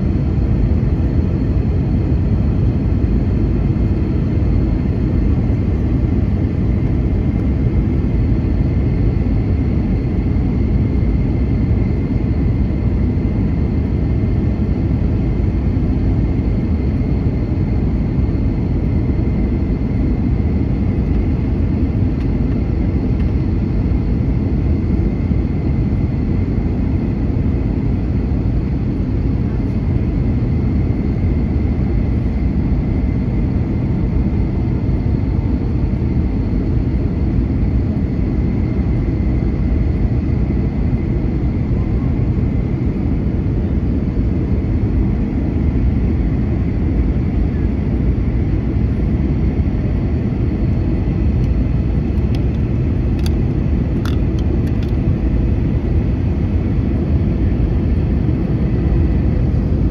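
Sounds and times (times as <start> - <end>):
airplane cabin engine drone: 0.0 - 59.9
faint high whine: 0.0 - 59.9.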